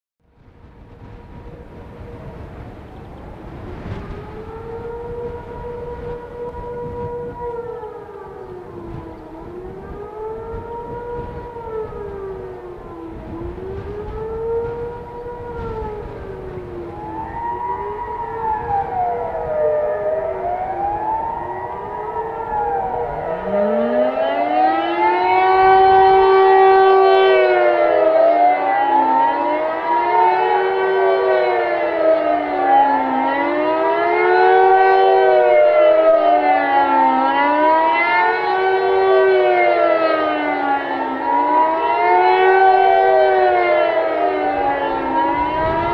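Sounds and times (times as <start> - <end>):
siren wailing: 0.4 - 45.9
second siren winding up: 2.3 - 45.9.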